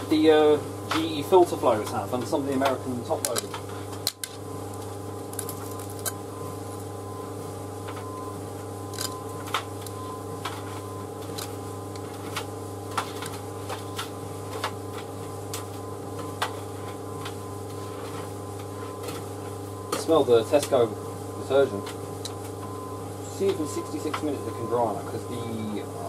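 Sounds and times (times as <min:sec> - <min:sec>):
tumble dryer humming: 0:00.0 - 0:26.0.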